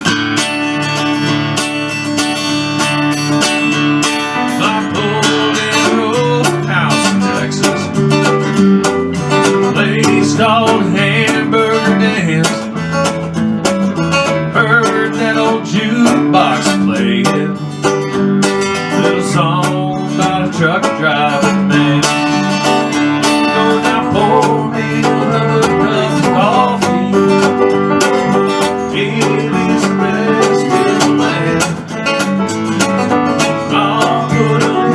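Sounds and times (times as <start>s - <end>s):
instrumental country music: 0.0s - 34.9s.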